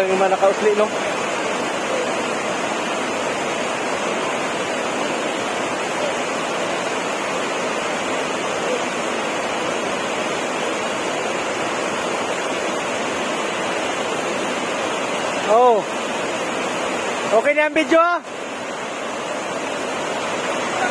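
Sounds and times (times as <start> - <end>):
rushing water roar: 0.0 - 20.9.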